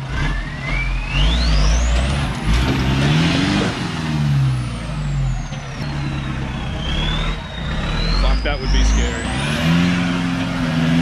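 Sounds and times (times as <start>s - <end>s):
off-road engine revving under load: 0.0s - 11.0s.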